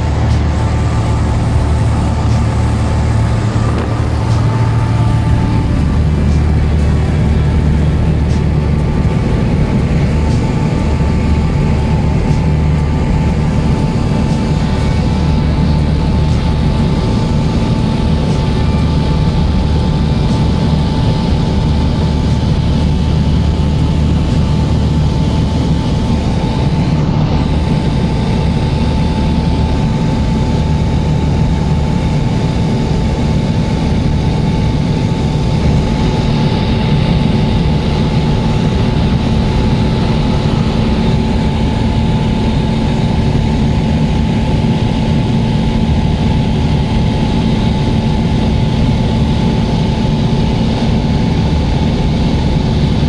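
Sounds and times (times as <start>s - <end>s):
high whine: 0.0s - 53.0s
propeller airplane engine droning: 0.0s - 53.0s.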